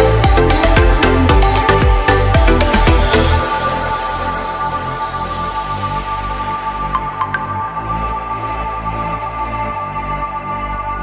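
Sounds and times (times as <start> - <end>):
electronic music: 0.0 - 9.5.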